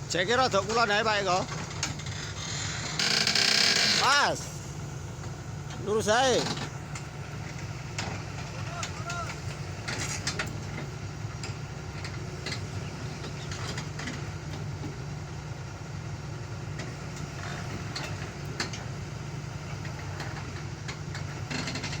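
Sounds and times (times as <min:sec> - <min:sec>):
excavator diesel engine idling: 0:00.0 - 0:22.0.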